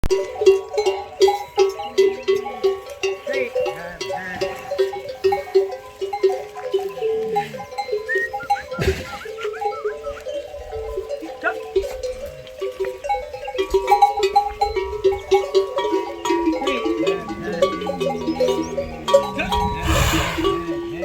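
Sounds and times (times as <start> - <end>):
camel bells clanking: 0.0 - 21.0
birds chirping: 0.2 - 21.0.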